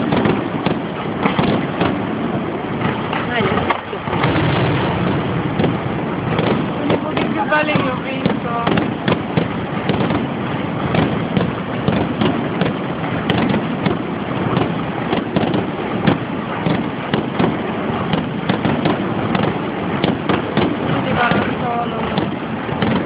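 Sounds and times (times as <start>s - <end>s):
fireworks barrage crackling: 0.0s - 23.0s.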